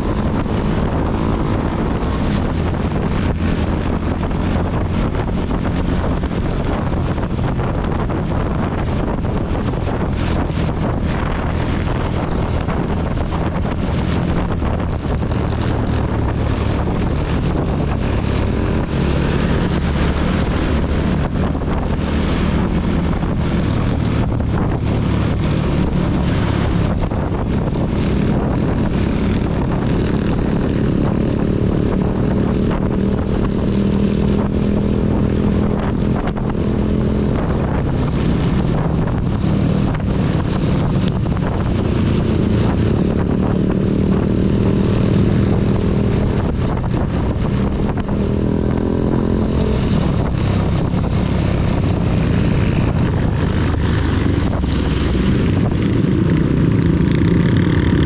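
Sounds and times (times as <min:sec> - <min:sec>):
heavy rain on microphone: 0:00.0 - 0:58.0
motorcycle engine running: 0:00.0 - 0:58.0
wind on microphone: 0:00.0 - 0:58.0.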